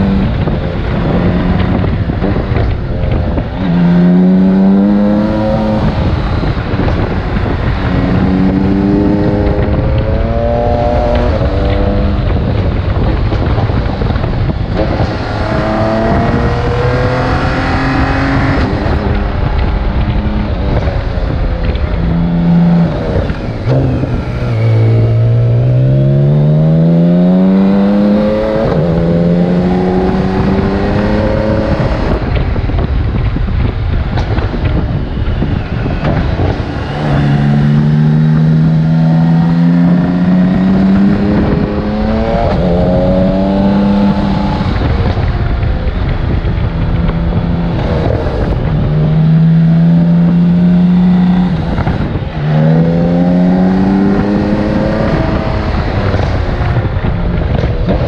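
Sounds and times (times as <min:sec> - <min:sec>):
motorcycle engine running: 0:00.0 - 0:58.0
wind rumble on microphone: 0:00.0 - 0:58.0.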